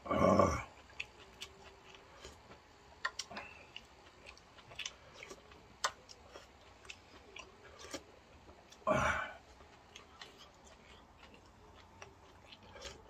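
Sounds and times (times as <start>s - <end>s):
soft chewing with clicks: 0.6s - 8.8s, 9.4s - 13.0s.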